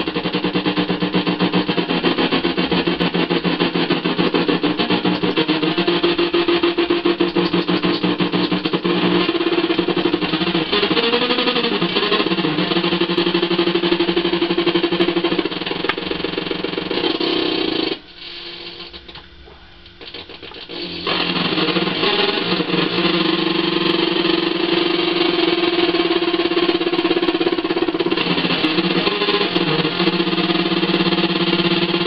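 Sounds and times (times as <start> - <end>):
fuzz electric guitar: 0.0 - 18.0, 19.9 - 32.0.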